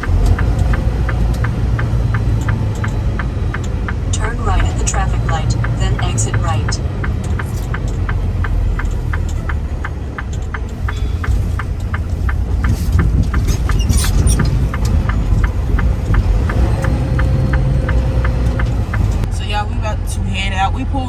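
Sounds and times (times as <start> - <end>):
turn signal flasher clicking: 0.0 - 19.3
diesel engine rumbling: 0.0 - 21.0.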